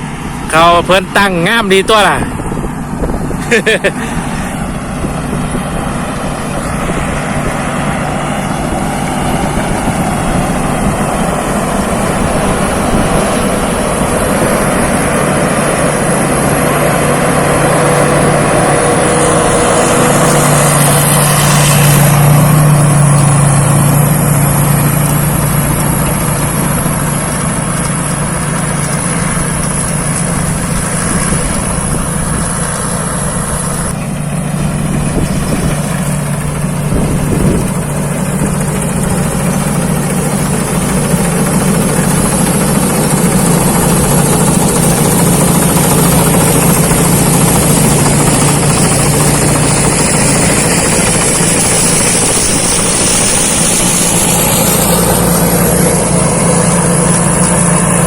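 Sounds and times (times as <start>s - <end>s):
combine harvester engine hum: 0.0s - 58.0s
high whine: 0.0s - 58.0s.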